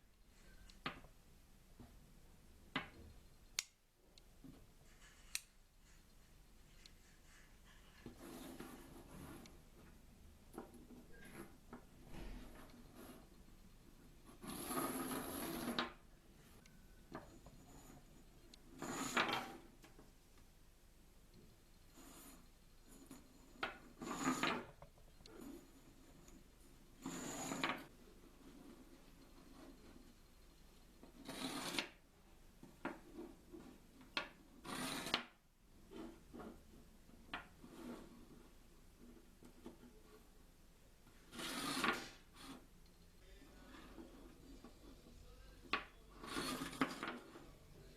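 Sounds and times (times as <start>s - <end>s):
rubbing scraping handling noise: 4.4s - 19.8s, 21.7s - 40.4s, 41.0s - 42.8s, 43.4s - 47.9s.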